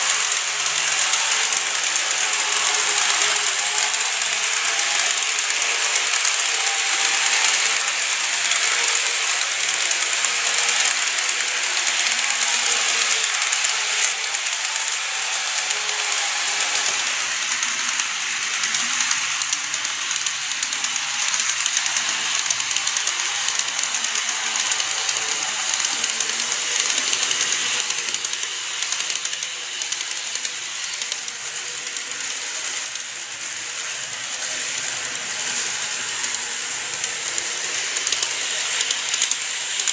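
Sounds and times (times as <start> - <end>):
model train wheels clicking: 0.0 - 39.9.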